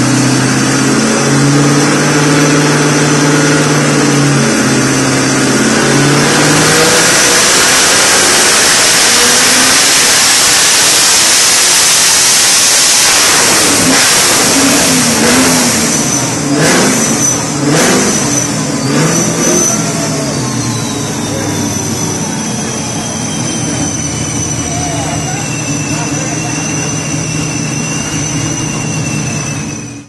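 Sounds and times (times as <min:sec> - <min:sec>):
car engine revving on dyno: 0:00.0 - 0:30.0.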